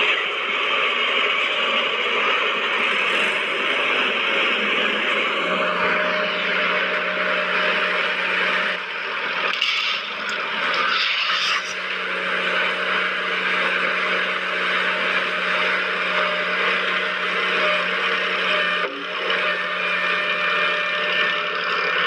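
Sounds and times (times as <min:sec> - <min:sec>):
small electric motor whining: 0:00.0 - 0:22.0.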